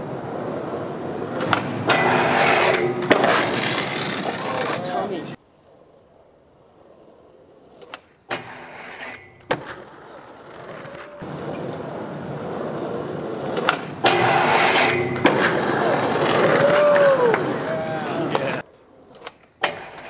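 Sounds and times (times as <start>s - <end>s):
skateboard clacking on ground: 0.0s - 20.0s
skateboard wheels rolling on concrete: 0.0s - 20.0s.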